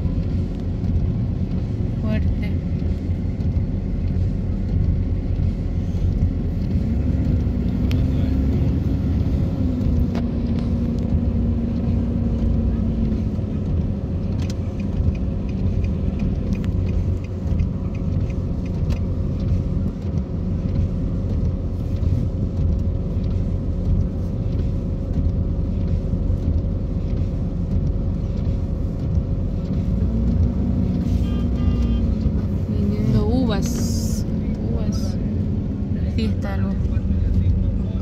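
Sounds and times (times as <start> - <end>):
car engine rumble: 0.0 - 38.0
tyres on wet road: 0.0 - 38.0.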